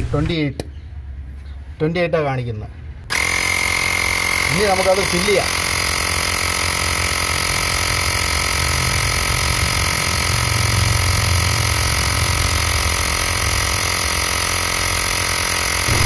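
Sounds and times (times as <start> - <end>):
air compressor running: 3.1 - 16.0.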